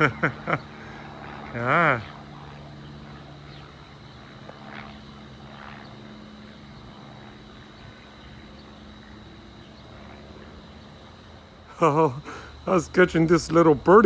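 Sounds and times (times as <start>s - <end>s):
propeller plane droning overhead: 0.0s - 14.0s.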